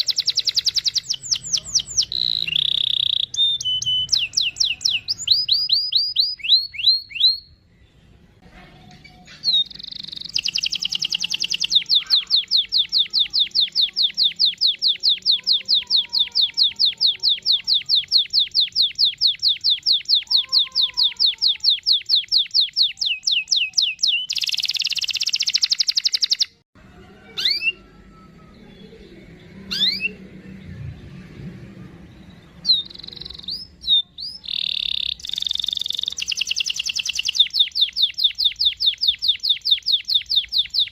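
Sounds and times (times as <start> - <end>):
canary singing trills: 0.0 - 8.2, 9.0 - 26.6, 27.2 - 30.7, 31.7 - 40.9.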